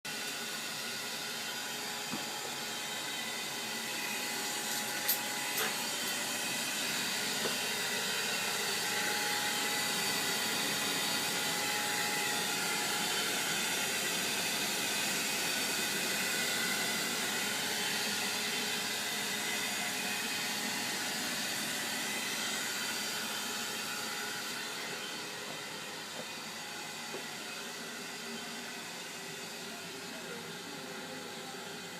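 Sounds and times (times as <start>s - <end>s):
gas boiler fan and burner rushing: 0.1s - 31.9s.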